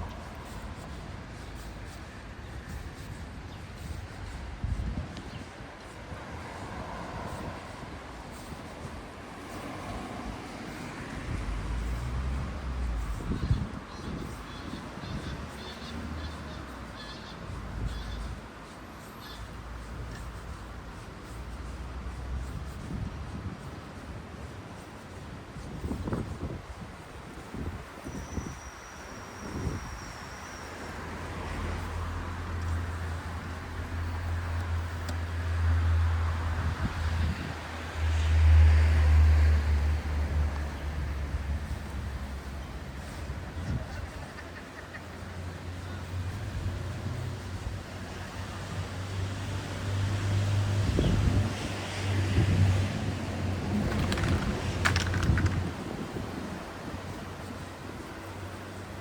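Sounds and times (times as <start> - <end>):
vehicle engine hum: 0.0 - 28.4, 29.2 - 59.0.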